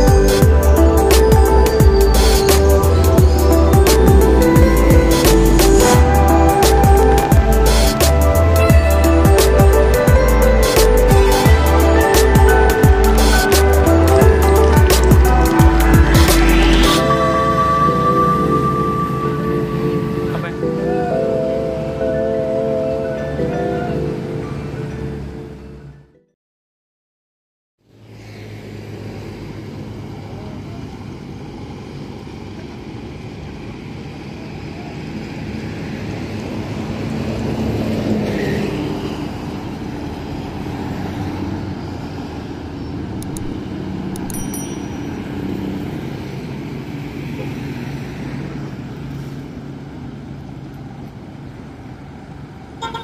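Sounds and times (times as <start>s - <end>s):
engine hum: 0.0s - 26.1s, 27.8s - 53.0s
bus driving past: 0.0s - 26.2s, 27.8s - 53.0s
road traffic: 0.0s - 26.2s, 27.8s - 53.0s.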